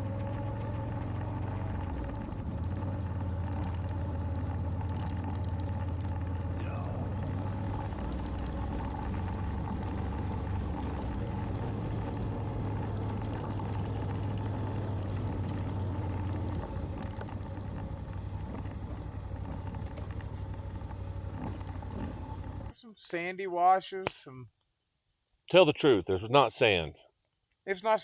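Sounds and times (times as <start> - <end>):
motorcycle engine running: 0.0 - 22.7
wind: 0.0 - 22.8.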